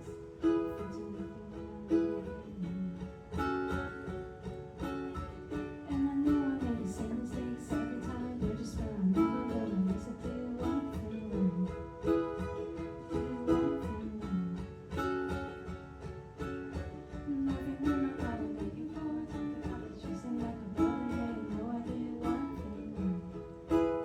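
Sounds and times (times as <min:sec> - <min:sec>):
ukuleles strumming chords: 0:00.0 - 0:24.0.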